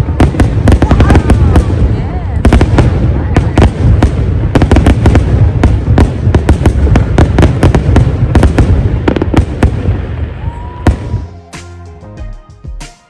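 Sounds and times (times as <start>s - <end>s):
fireworks bangs and crackles: 0.0s - 11.9s.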